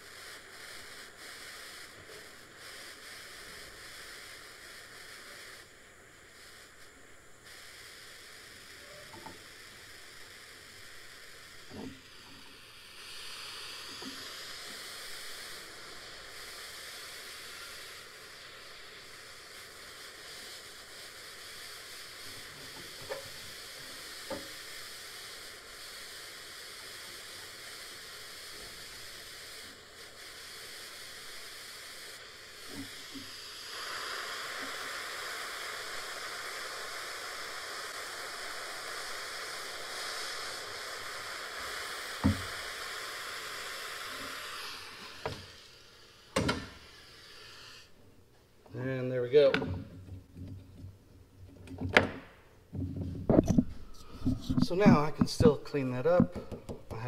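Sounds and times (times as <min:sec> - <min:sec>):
torch flame hissing: 0:00.0 - 0:57.0.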